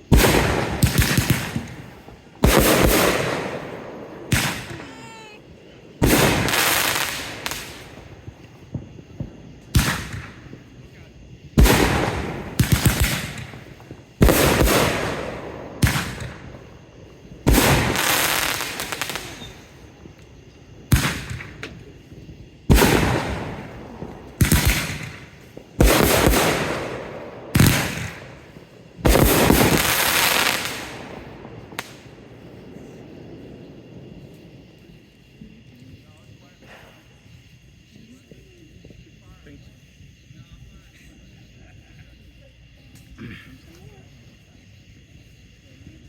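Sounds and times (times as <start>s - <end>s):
fireworks bangs: 0.0s - 46.0s
fireworks crackling: 0.0s - 46.0s.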